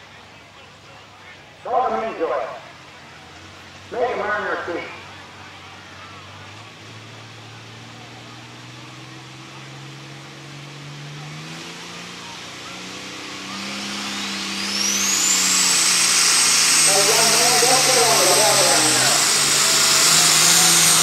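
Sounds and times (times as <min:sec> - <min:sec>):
diesel tractor engine revving: 0:01.6 - 0:21.0
turbocharger whine: 0:01.6 - 0:21.0.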